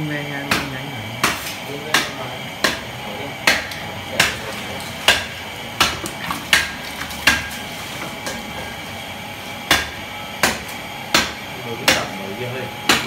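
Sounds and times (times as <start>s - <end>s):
cleaver chopping meat: 0.4s - 8.8s, 9.5s - 13.0s.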